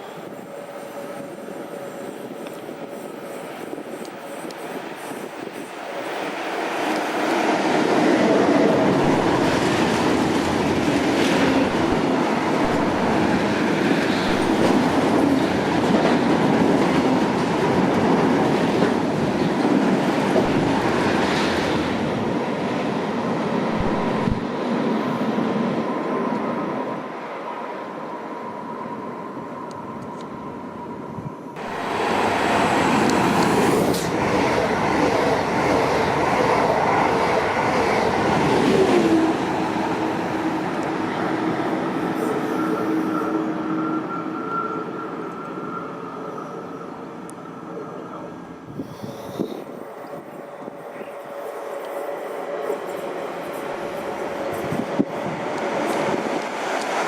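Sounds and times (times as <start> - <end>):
train wheels rolling on rail: 0.0 - 57.0.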